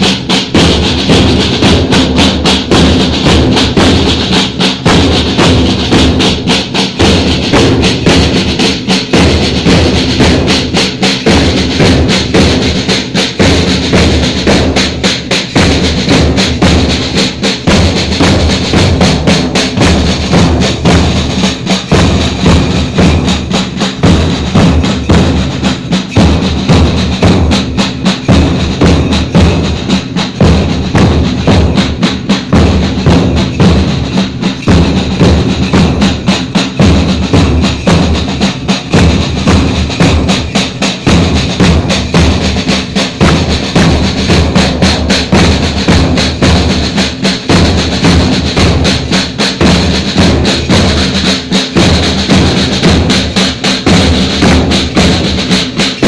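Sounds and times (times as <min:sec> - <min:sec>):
bass drum: 0:00.0 - 0:56.0
snare drum strokes: 0:00.0 - 0:56.0.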